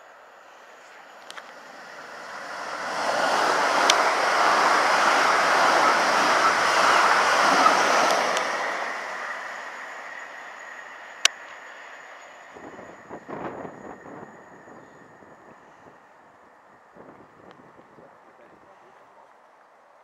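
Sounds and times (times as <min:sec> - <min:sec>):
train passing on rails: 0:00.0 - 0:19.3.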